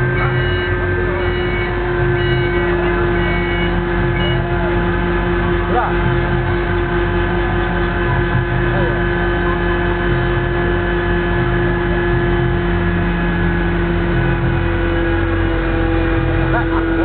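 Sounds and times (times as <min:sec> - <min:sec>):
fire truck engine and hydraulics: 0:00.0 - 0:17.0.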